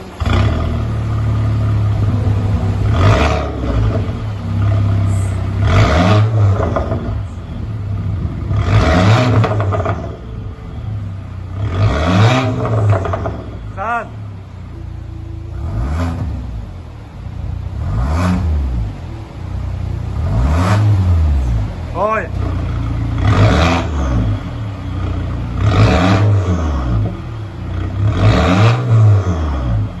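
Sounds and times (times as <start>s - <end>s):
car engine idling: 0.0s - 30.0s
engine revs: 0.0s - 30.0s.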